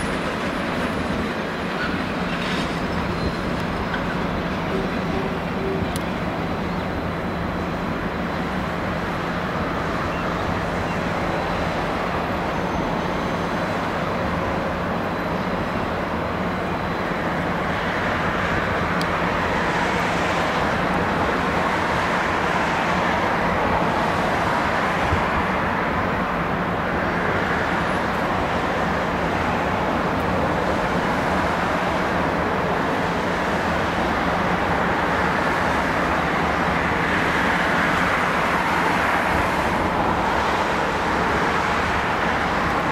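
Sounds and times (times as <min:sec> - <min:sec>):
diesel locomotive rumbling: 0:00.0 - 0:42.9
urban traffic noise: 0:00.0 - 0:42.9.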